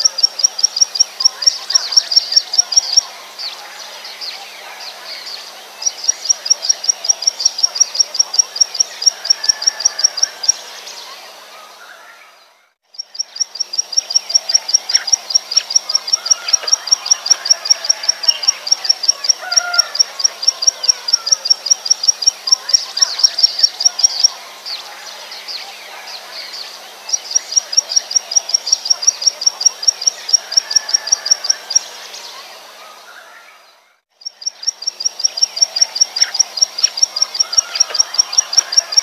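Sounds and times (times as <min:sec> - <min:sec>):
bird song of high sharp notes: 0:00.0 - 0:39.0.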